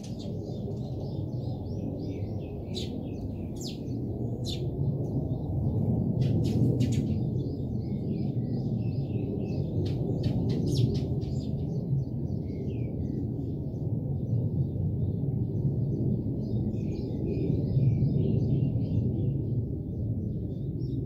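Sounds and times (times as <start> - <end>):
sparrows chirping: 0.0 - 21.0
steady low rumble: 0.0 - 21.0.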